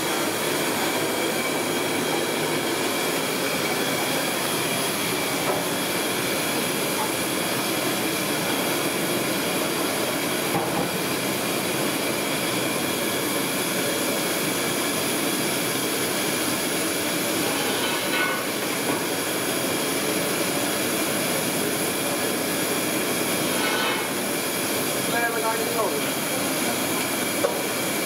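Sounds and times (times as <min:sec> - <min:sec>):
chicken deep-frying in oil: 0:00.0 - 0:28.0
gas burners running: 0:00.0 - 0:28.0.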